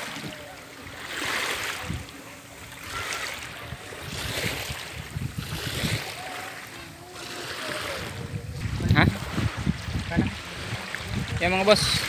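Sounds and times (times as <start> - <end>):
seawater sloshing: 0.0 - 12.0
wind on microphone: 0.9 - 12.0.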